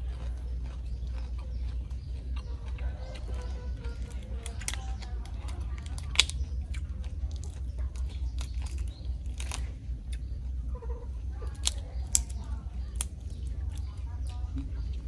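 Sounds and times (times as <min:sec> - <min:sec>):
prawn shell crackling: 0:00.0 - 0:10.6, 0:11.3 - 0:14.5
steady low hum: 0:00.0 - 0:15.0.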